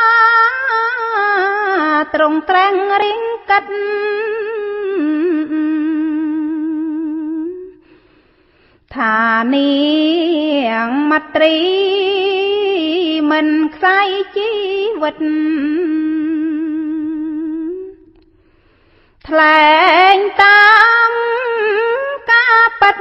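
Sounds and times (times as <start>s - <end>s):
woman chanting: 0.0s - 7.8s, 8.9s - 18.1s, 19.2s - 23.0s.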